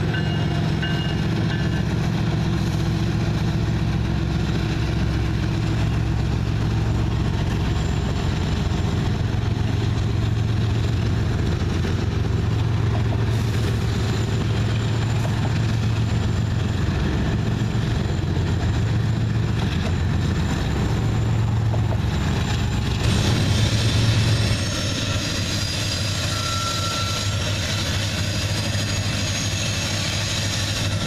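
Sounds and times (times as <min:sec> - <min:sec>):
diesel locomotive engine drone: 0:00.0 - 0:31.0
freight train rumbling by: 0:00.0 - 0:31.0.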